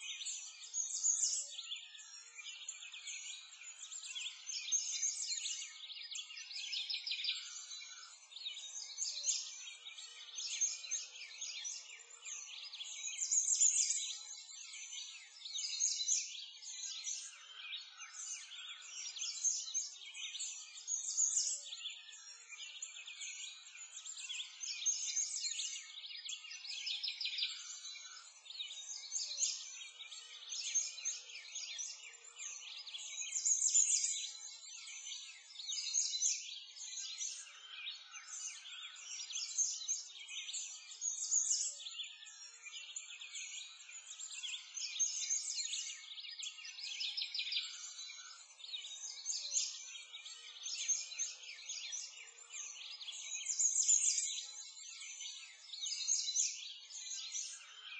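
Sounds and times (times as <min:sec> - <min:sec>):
small birds chirping and trilling: 0:00.0 - 0:57.9.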